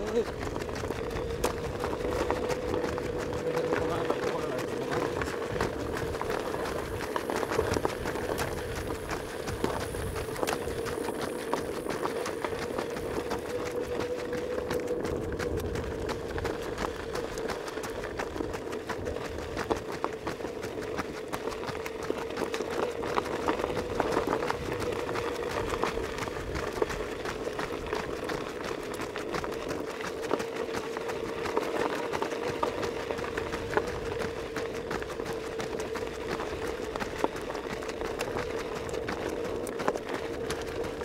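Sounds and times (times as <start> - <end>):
running footsteps on dirt road: 0.0 - 41.0
steady hum: 0.0 - 41.0.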